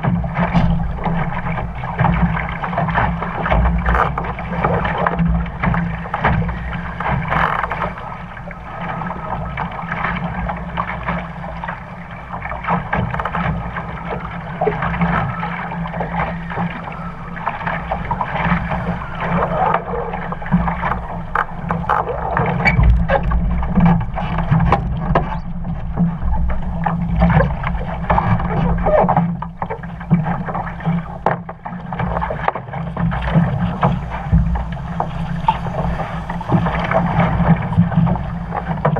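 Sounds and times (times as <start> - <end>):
water splashing against hull: 0.0 - 38.9
wind rumble on microphone: 0.0 - 38.9.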